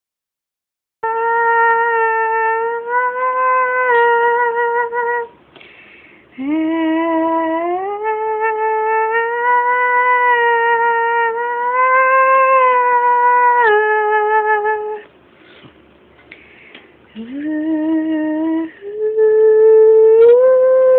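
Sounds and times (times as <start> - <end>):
woman humming: 1.0 - 5.4, 6.3 - 15.1, 17.1 - 20.9.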